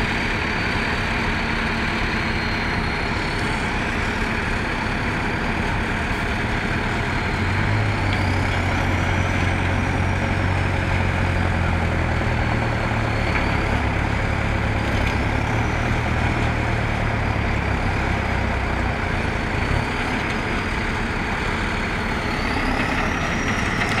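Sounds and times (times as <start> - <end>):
diesel tractor engines running: 0.0 - 24.0.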